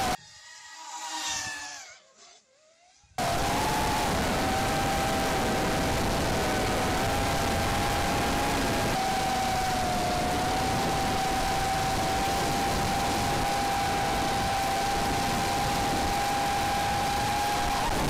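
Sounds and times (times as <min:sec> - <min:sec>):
drone motors and propellers whining: 0:00.0 - 0:18.0
wind noise: 0:03.2 - 0:18.0.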